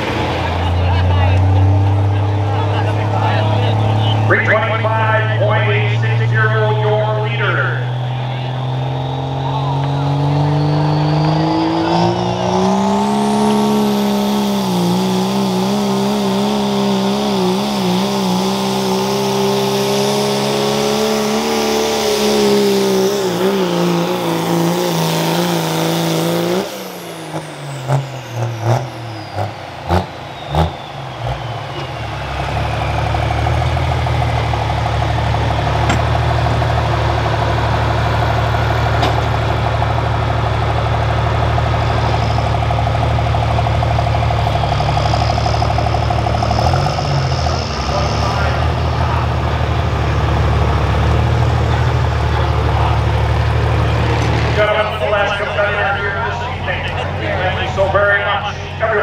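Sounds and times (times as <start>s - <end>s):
diesel truck engine full throttle: 0.0s - 59.0s.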